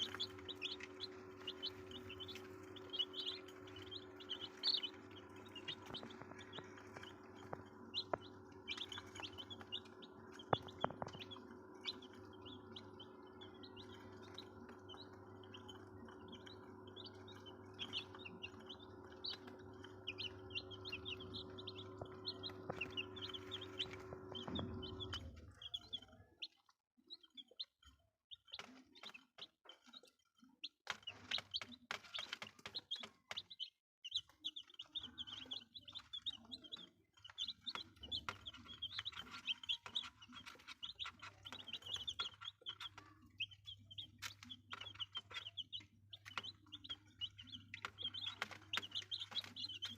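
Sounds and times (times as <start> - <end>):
electrical hum: 0.0 - 26.0, 34.2 - 49.9
chicks peeping: 0.0 - 49.9.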